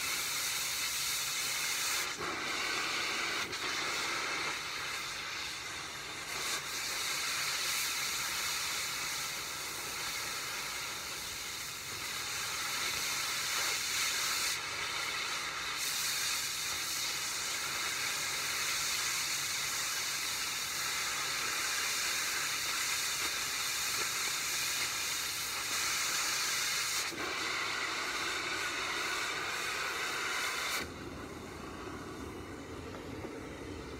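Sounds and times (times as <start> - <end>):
cutting torch hissing: 0.0 - 33.9.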